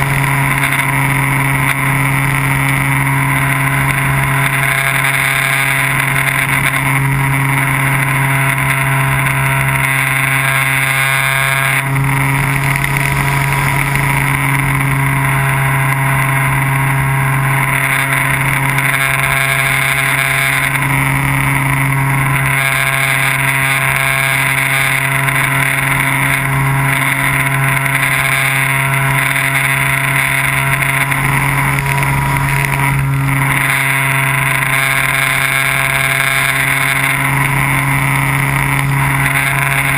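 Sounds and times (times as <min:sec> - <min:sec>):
drone motor and propeller: 0:00.0 - 0:39.9.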